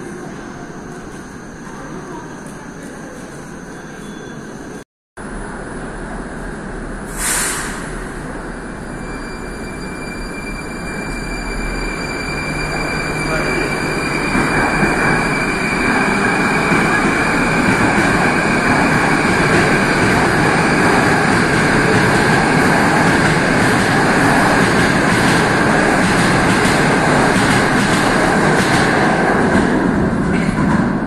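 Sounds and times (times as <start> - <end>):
metro train rumbling past: 0.0 - 31.0.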